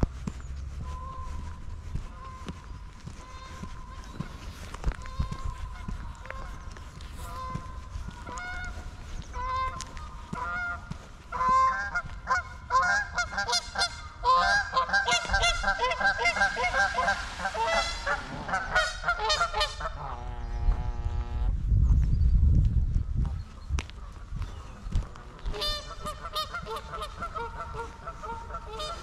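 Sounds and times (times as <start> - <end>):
geese honking: 0.7 - 21.5, 24.0 - 29.0.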